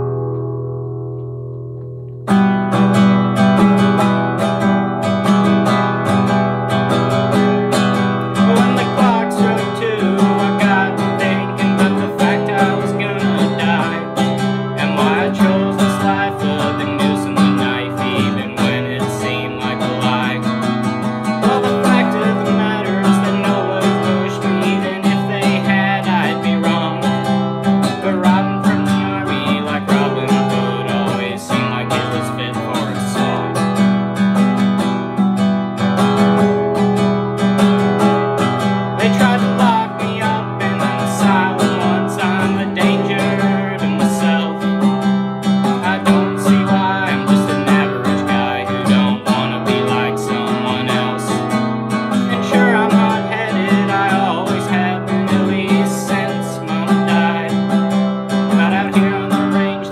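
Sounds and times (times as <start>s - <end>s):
acoustic guitar strumming: 0.0s - 59.9s
man singing: 3.6s - 33.9s, 36.0s - 59.9s.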